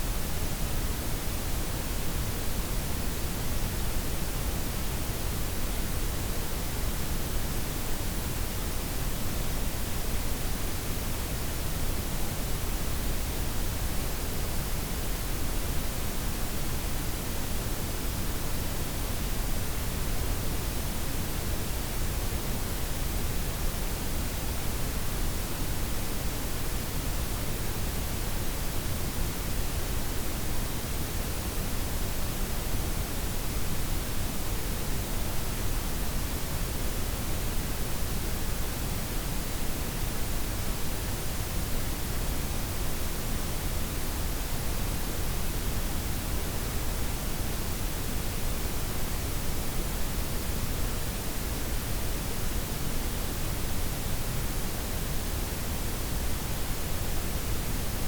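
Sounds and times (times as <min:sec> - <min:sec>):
steady noise hiss: 0:00.0 - 0:58.0.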